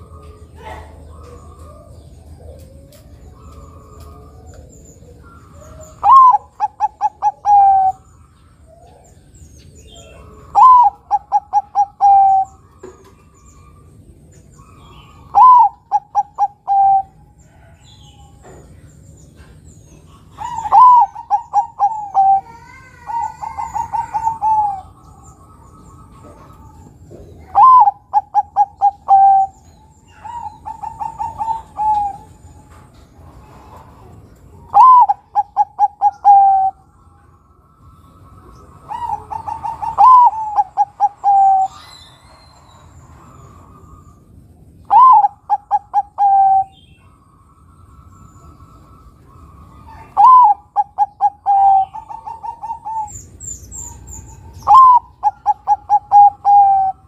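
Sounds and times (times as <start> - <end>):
dove cooing: 0.0 - 47.2, 48.0 - 57.0.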